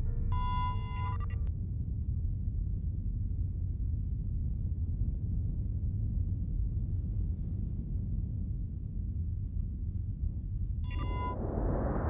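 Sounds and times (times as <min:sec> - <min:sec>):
deep rumbling drone: 0:00.0 - 0:07.3, 0:07.9 - 0:12.0.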